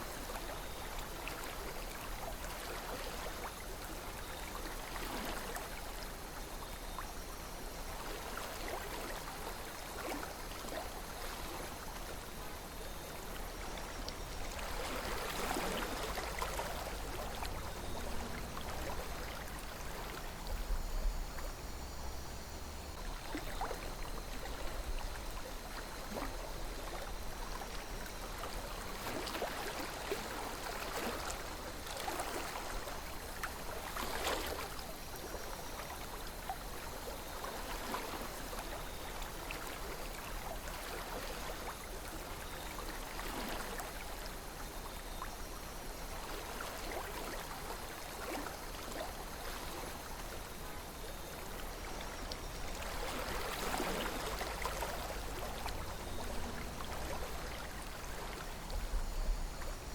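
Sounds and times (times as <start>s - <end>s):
river water flowing with gurgles: 0.0s - 59.9s.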